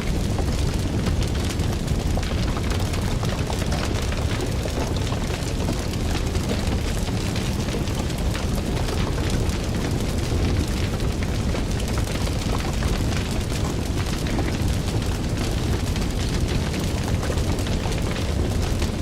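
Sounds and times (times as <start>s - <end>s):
fire crackling and popping: 0.0s - 19.0s
fire roaring: 0.0s - 19.0s.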